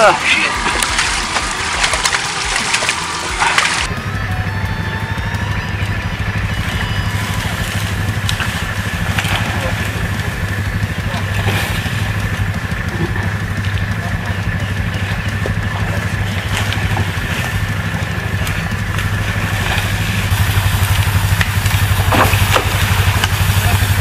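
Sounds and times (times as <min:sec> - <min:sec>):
indistinct voices: 0:00.0 - 0:24.0
small engine humming: 0:00.0 - 0:24.0.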